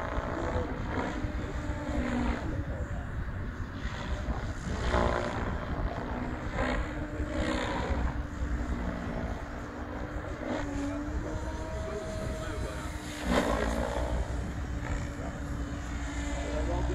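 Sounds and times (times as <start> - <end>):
model helicopter rotor hum: 0.0 - 16.9
wind rumble on microphone: 0.0 - 16.9.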